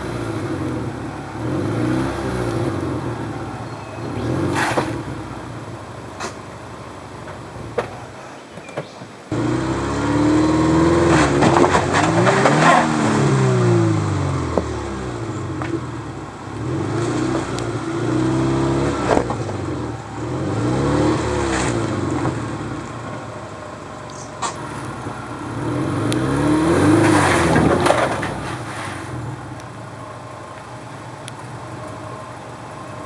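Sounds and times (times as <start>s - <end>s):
car engine revving hard: 0.0s - 8.0s, 9.3s - 33.0s
car knocking over rocks: 0.0s - 32.2s.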